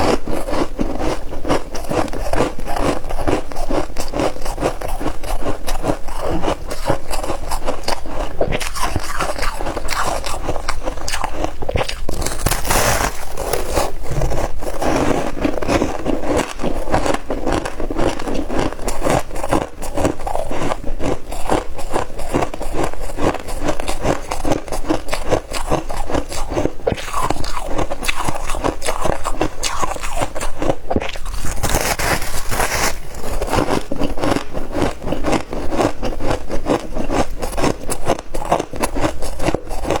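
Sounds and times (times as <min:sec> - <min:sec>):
ice being crunched and chewed: 0:00.0 - 0:40.0.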